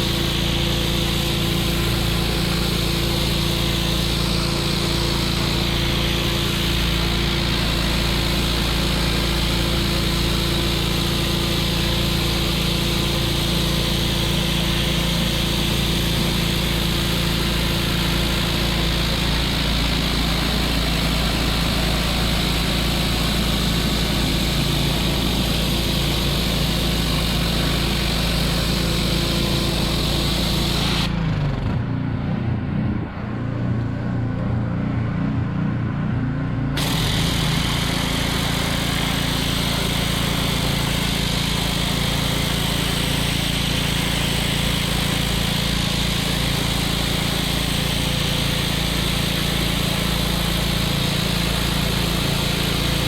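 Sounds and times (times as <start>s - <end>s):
water jet hissing: 0.0s - 31.1s, 36.8s - 53.0s
small engine droning: 0.0s - 53.0s.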